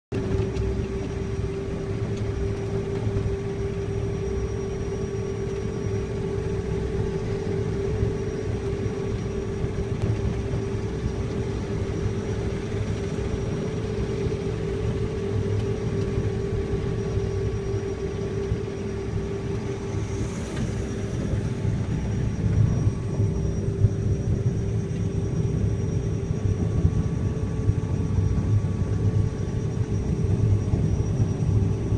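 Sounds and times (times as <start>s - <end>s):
constant hum: 0.1s - 31.9s
engine drone: 0.1s - 31.9s.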